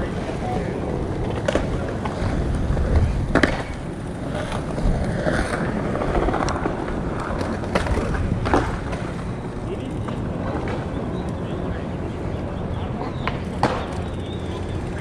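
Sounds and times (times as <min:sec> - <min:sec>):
bicycle tyres rumbling on pavement: 0:00.0 - 0:15.0.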